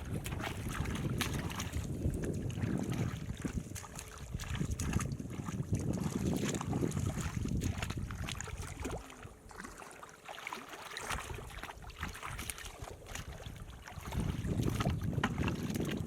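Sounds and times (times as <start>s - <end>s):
wind rumbling on microphone: 0.0s - 9.6s, 11.0s - 16.0s
water splashing and sloshing: 0.0s - 16.0s.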